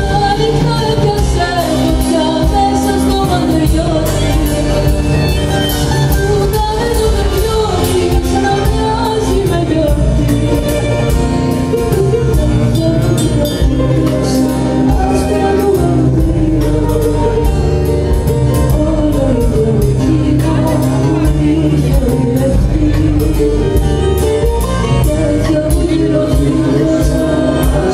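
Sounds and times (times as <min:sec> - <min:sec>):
acoustic guitar: 0:00.0 - 0:27.9
drum kit beat: 0:00.0 - 0:27.9
electric bass: 0:00.0 - 0:27.9
woman singing: 0:00.0 - 0:27.9.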